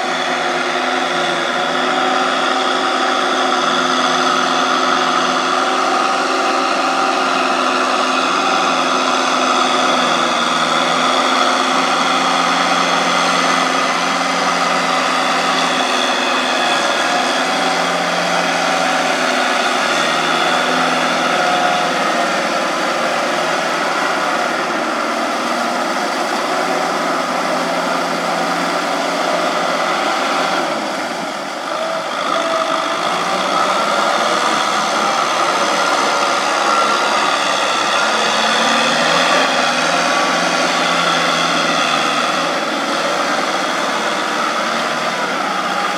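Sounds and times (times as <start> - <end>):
farm machine engine running: 0.0 - 45.9.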